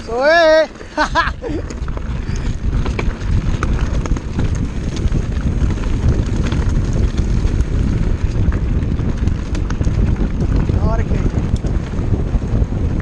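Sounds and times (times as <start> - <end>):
bike tyre rumble on dirt: 0.0 - 13.0
clicks and rattles over stones: 0.0 - 13.0
wind buffeting microphone: 0.0 - 13.0.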